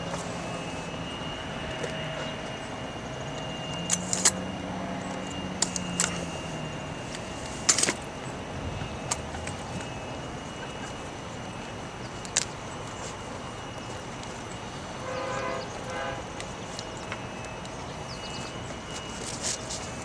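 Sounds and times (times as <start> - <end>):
distant train drone: 0.0 - 20.0
outdoor background noise: 0.0 - 20.0.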